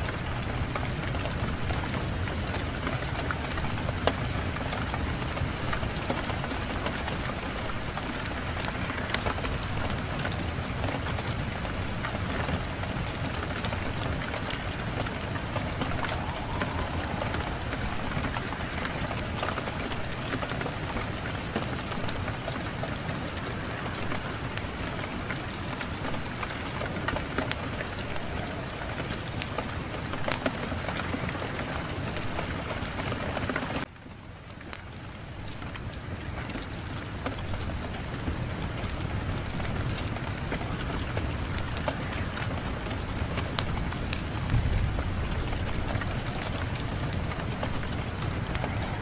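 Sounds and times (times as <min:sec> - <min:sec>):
fireplace fire crackling: 0:00.0 - 0:49.0
low rumble of wind: 0:00.0 - 0:49.0.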